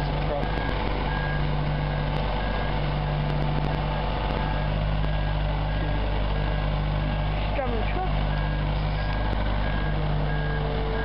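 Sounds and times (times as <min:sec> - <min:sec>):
boat hoist engine droning: 0:00.0 - 0:11.0.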